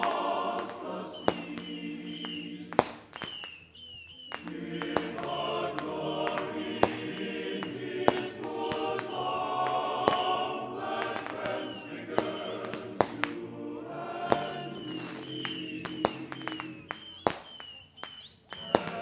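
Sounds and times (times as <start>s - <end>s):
choral music: 0.0s - 3.0s, 4.4s - 17.0s, 18.6s - 19.0s
firework bangs: 0.0s - 19.0s.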